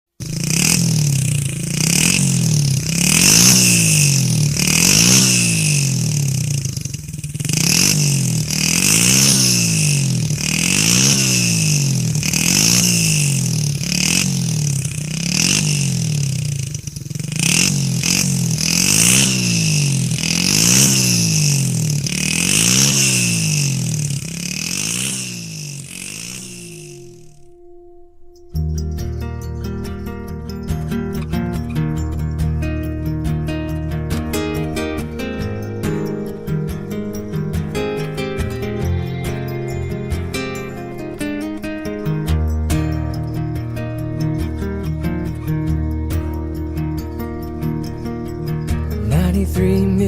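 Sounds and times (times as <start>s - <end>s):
motorcycle engine revving: 0.1s - 50.0s.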